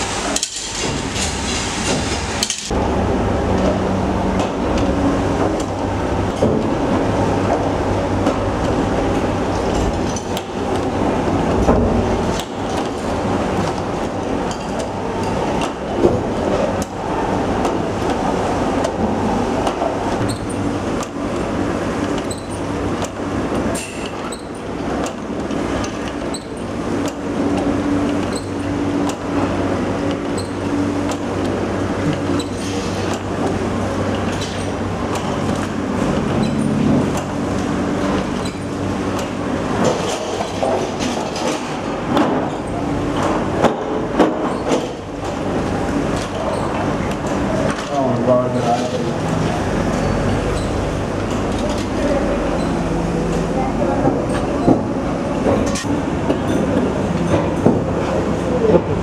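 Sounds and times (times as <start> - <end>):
workshop machine hum: 0.0 - 59.0.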